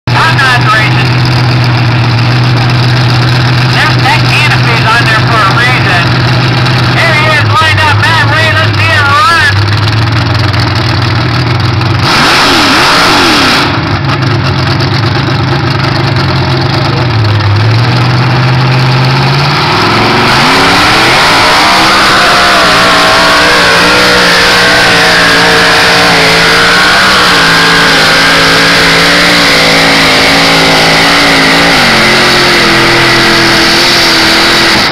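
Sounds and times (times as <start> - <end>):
loud engine revving: 0.1 - 34.9.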